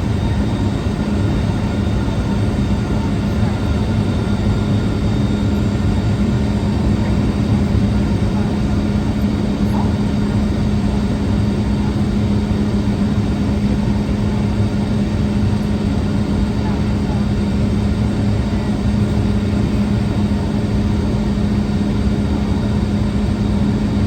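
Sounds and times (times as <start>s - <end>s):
jet engines idling: 0.0s - 24.0s.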